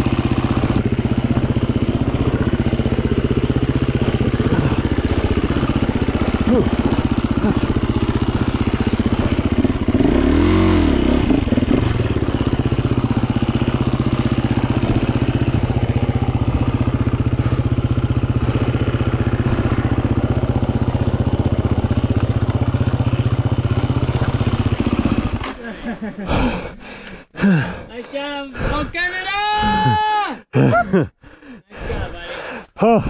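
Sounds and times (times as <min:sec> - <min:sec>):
dirt bike engine running: 0:00.0 - 0:27.7.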